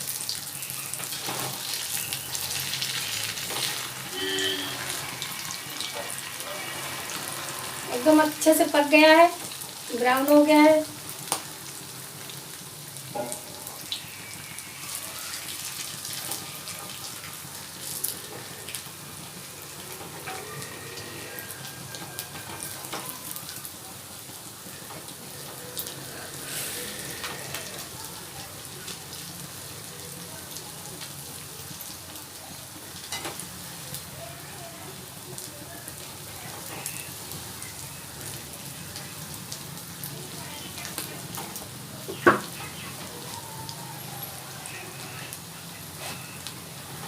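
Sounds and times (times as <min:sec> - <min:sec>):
deep-frying in hot oil: 0:00.0 - 0:47.0.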